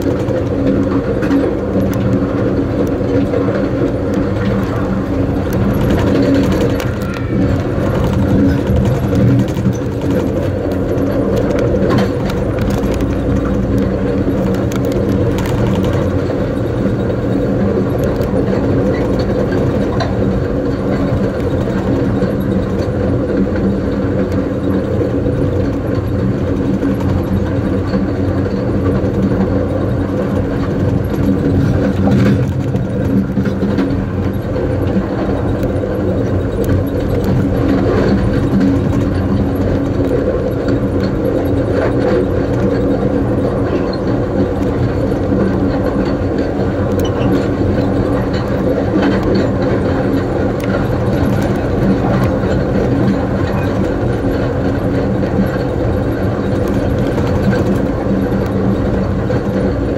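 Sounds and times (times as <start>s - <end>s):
faint clicks and rattles: 0.0s - 59.9s
train wheels rumbling on rails: 0.0s - 59.9s.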